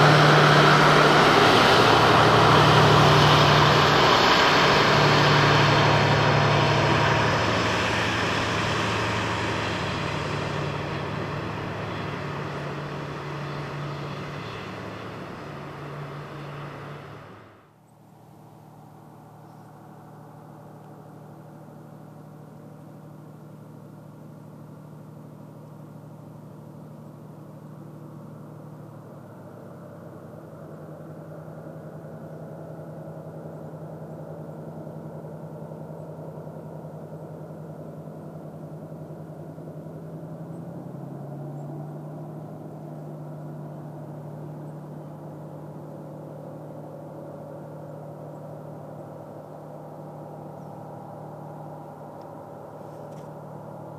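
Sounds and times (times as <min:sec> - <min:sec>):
diesel locomotive engine humming: 0:00.0 - 0:53.9.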